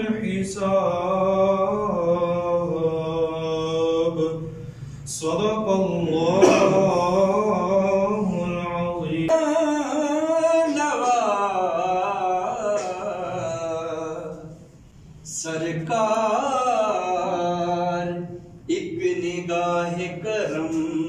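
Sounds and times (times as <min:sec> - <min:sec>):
man chanting a prayer: 0:00.0 - 0:21.0.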